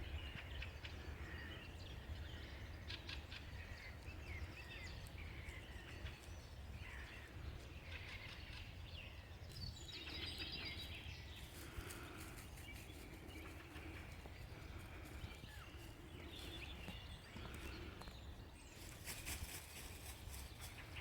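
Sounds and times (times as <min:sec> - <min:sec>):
songbirds chirping and singing: 0:00.0 - 0:21.0.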